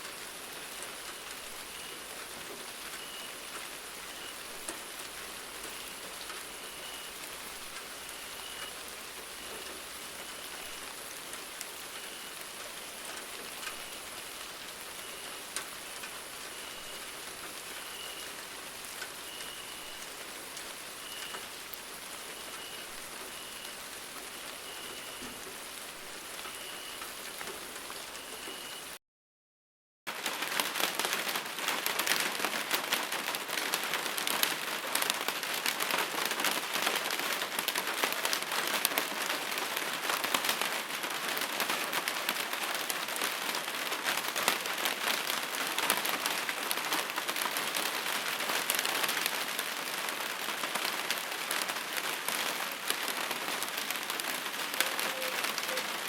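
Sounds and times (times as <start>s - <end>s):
rain falling: 0.0s - 29.0s, 30.1s - 56.0s.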